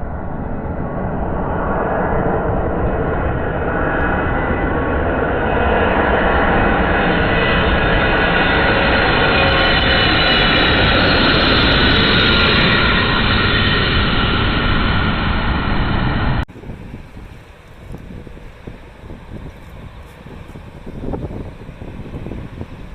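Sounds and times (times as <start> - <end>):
jet airliner engine roar: 0.0 - 22.9.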